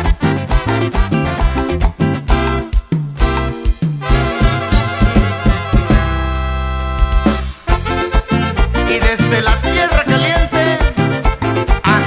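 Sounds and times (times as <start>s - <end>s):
regional band music: 0.0s - 12.0s.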